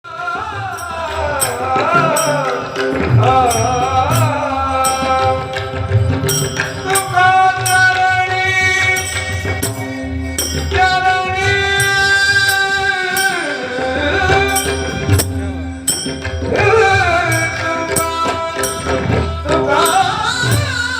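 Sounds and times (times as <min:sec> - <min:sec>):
percussion strikes: 0:00.0 - 0:20.9
person singing devotional song: 0:00.0 - 0:20.9.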